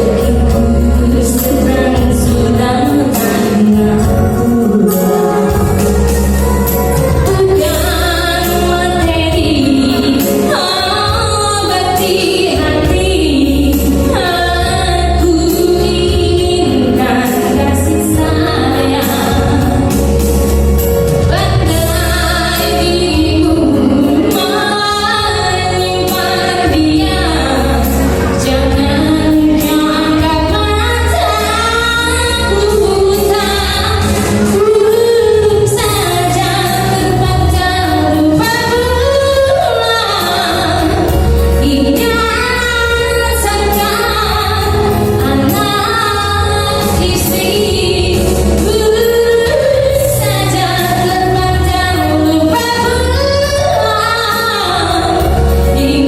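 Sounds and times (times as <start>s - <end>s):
woman singing: 0.0s - 20.2s, 21.1s - 56.0s
bass accompaniment: 0.0s - 56.0s.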